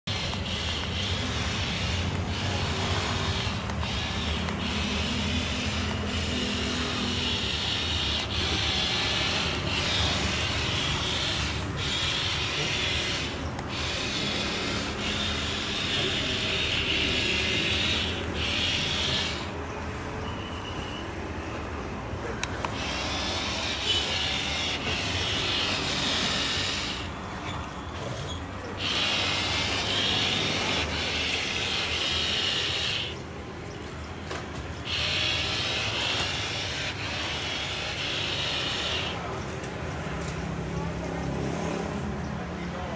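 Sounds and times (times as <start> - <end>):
toy electric motors whirring: 0.0 - 19.7, 22.2 - 40.7.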